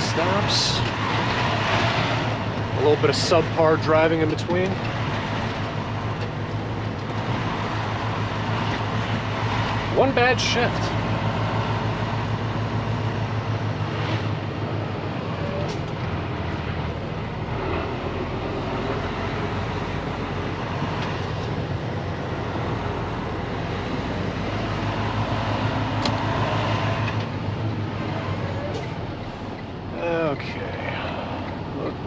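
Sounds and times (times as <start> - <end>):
road noise: 0.0 - 32.0
truck diesel engine running: 0.0 - 32.0.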